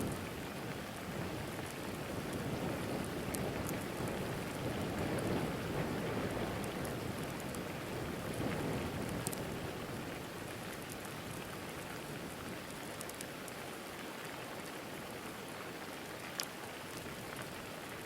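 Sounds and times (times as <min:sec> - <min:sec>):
raindrops ticking: 0:00.0 - 0:18.0
steady rain: 0:00.0 - 0:18.0.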